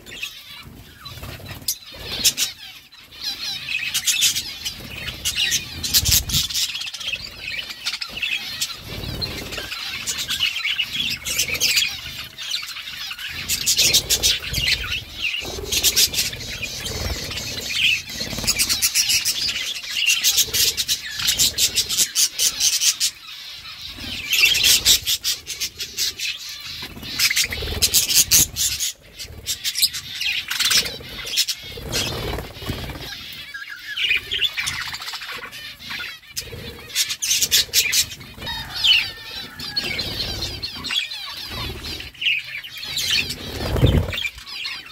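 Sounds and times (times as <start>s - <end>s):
budgerigars chirping: 0.0s - 44.9s.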